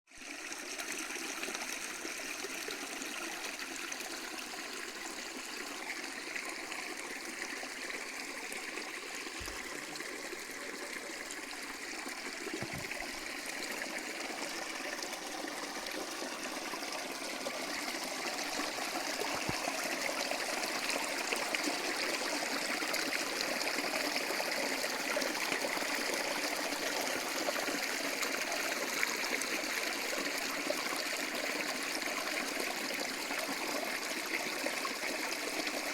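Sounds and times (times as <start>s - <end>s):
running water trickling: 0.2s - 35.9s.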